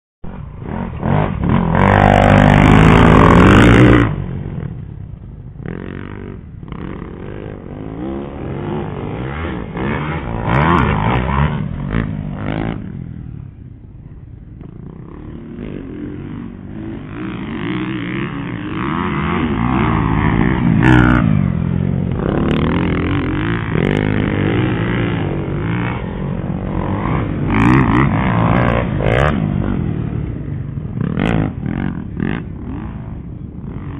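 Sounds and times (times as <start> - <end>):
dirt bike engines revving: 0.3 - 33.9.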